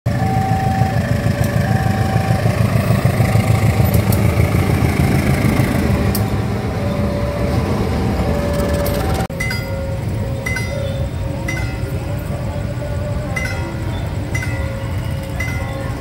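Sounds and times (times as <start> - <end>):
locomotive engine rumble: 0.1 - 16.0
two-tone crossing alarm: 0.1 - 16.0.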